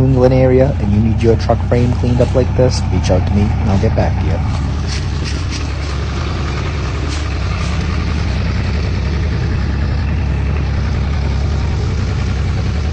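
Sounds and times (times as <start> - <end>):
pickup truck engine idling: 0.0 - 12.9.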